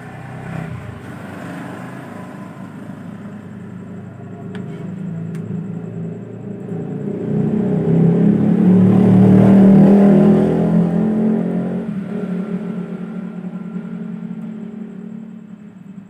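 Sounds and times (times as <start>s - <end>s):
vehicle passing by: 0.0s - 15.7s.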